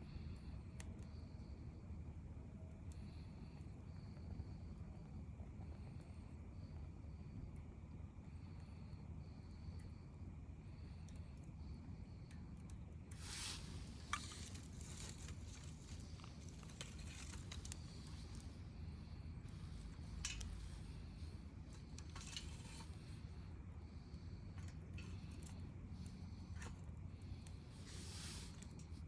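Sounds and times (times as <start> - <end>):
campfire crackling: 0.0 - 29.0
fire popping: 0.0 - 29.0
low steady rumble: 0.0 - 29.0.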